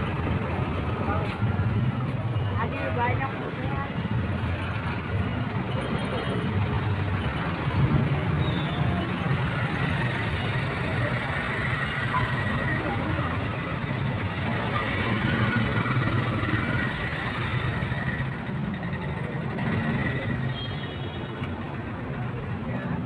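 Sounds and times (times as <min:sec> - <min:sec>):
faint voices: 0:00.0 - 0:20.5
traffic rumble: 0:00.0 - 0:23.0.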